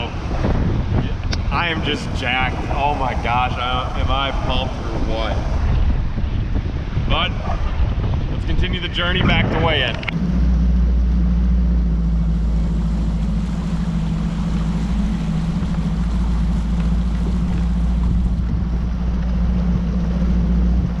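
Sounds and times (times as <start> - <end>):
outboard motor running: 0.0 - 21.0
rush of wind and water: 0.0 - 21.0.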